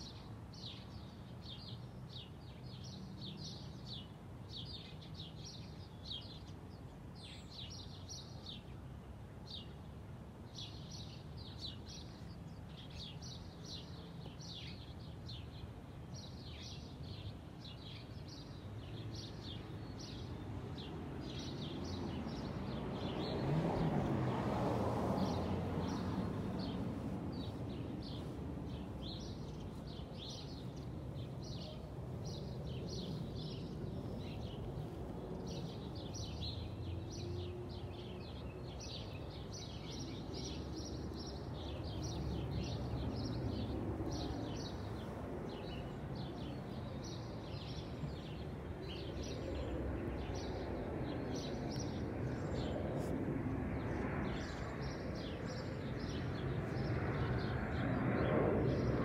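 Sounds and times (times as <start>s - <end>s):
distant traffic rumble: 0.0s - 59.0s
small birds chirping: 0.0s - 59.0s.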